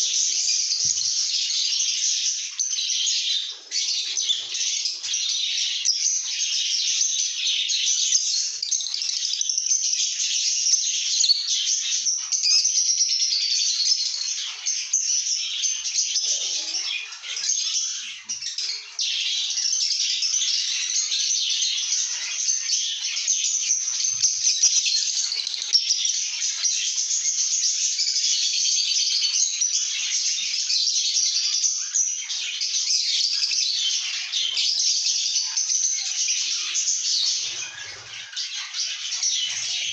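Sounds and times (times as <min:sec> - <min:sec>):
lovebirds chattering: 0:00.0 - 0:39.9.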